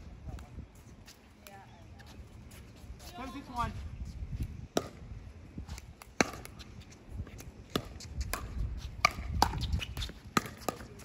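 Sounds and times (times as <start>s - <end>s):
wind rumble on microphone: 1.9s - 11.0s.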